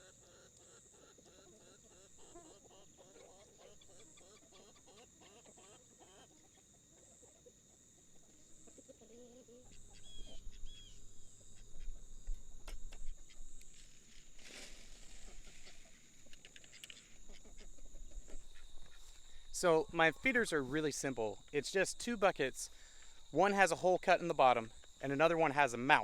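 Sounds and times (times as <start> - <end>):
insect chirring: 0.0 - 26.0
chickens clucking: 0.1 - 12.0, 15.0 - 25.5.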